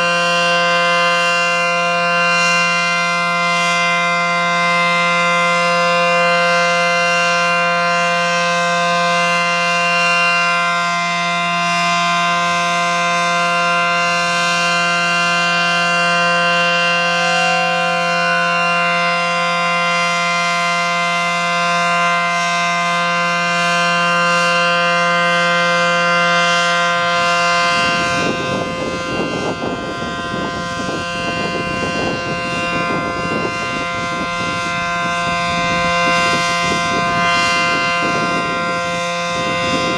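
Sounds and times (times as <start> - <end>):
siren two-note chord: 0.0 - 39.9.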